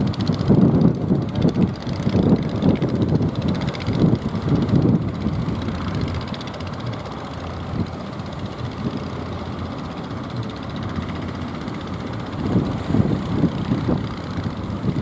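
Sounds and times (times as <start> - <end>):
engine running: 0.0 - 15.0
wind rumbling on microphone: 0.0 - 15.0.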